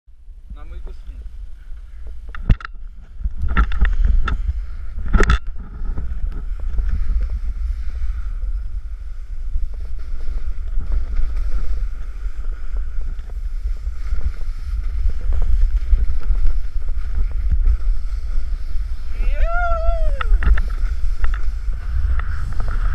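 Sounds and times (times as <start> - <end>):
wind buffeting microphone: 0.2 - 22.9
snowboard sliding through snow: 2.9 - 22.9.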